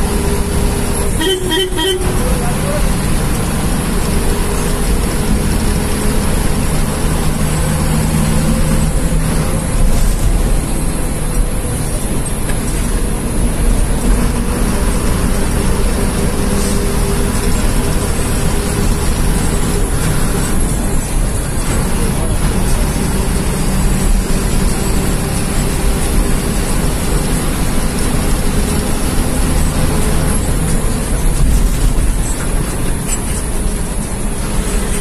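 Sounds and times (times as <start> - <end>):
bus diesel engine drone: 0.0 - 35.0
road noise: 0.0 - 35.0.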